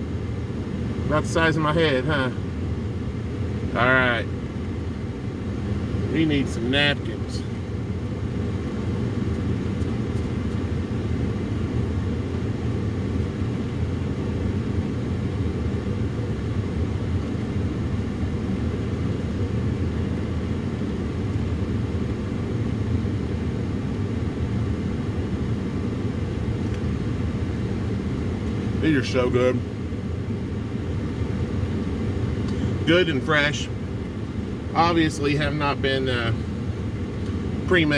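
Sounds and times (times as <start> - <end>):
vehicle rumble: 0.0 - 37.9.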